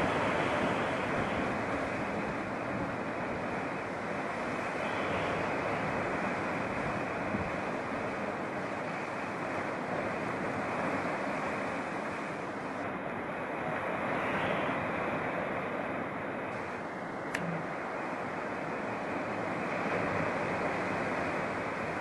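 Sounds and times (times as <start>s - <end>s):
surf breaking over rocks: 0.0s - 22.0s.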